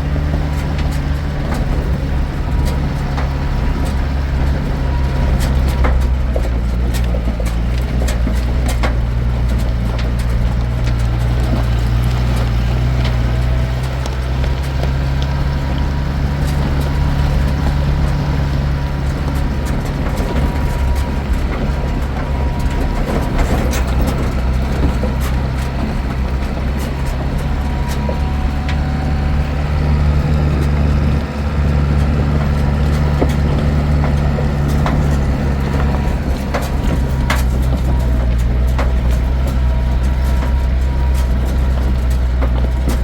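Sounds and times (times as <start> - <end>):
light clicks and rattles: 0.0 - 43.0
vehicle engine droning: 0.0 - 43.0.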